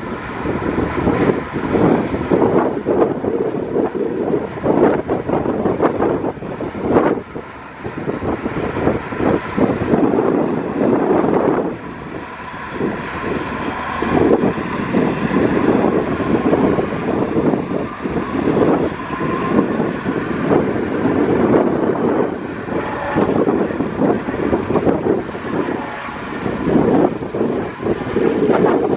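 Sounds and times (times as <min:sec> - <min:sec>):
diesel engines of earthmoving machinery: 0:00.0 - 0:28.9
wind buffeting microphone: 0:00.0 - 0:28.9.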